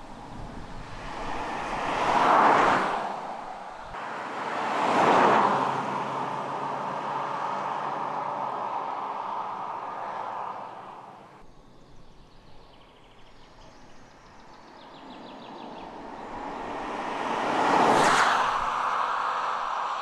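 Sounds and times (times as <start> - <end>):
car passing by: 0.0 - 11.4, 14.8 - 20.0.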